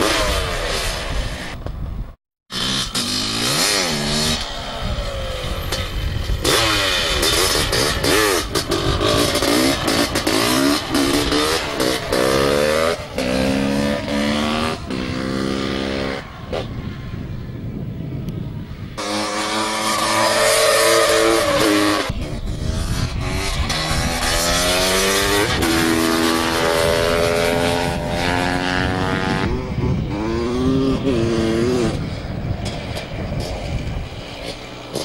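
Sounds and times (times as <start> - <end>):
dirt bike engine revving: 2.5 - 16.7, 19.0 - 35.0.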